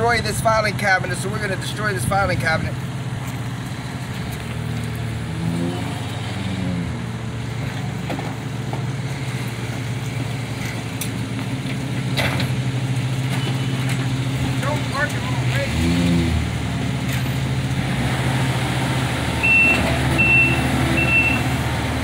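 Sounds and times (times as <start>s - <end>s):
track loader diesel engine: 0.0s - 22.0s.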